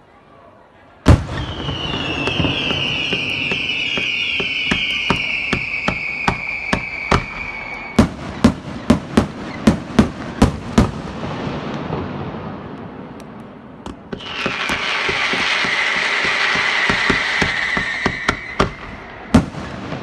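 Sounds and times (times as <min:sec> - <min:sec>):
whistling fireworks: 0:01.0 - 0:20.0
firework pops: 0:01.1 - 0:11.0, 0:12.8 - 0:20.0
loud firework bangs: 0:01.1 - 0:20.0.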